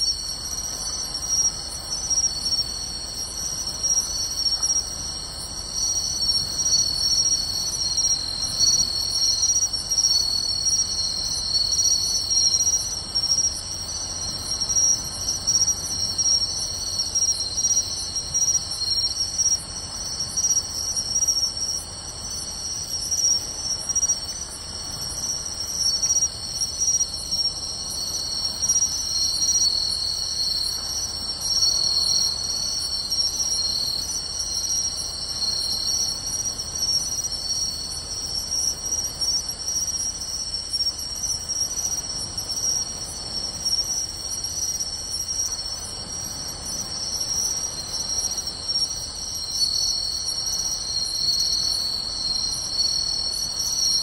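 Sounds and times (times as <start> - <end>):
crickets trilling and chirping: 0.0 - 54.0.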